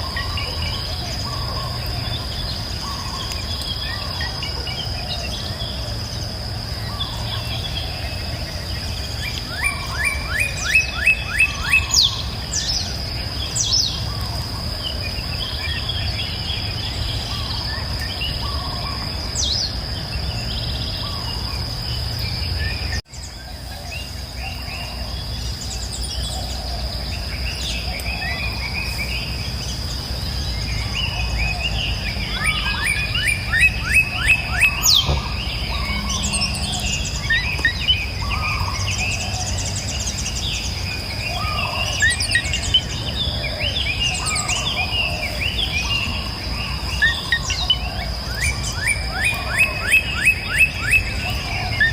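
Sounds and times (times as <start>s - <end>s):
bird calls: 0.0s - 51.9s
high insect drone: 0.0s - 51.9s.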